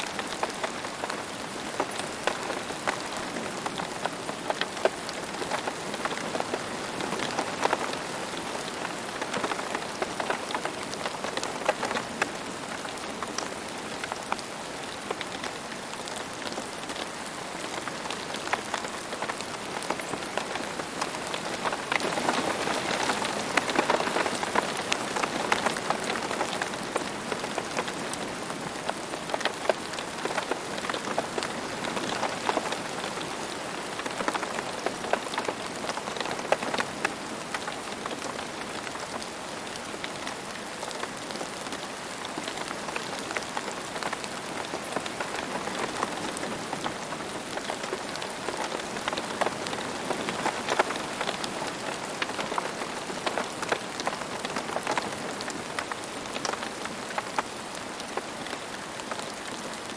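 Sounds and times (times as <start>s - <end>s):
rain falling: 0.0s - 59.9s
raindrops tapping close by: 0.0s - 59.9s.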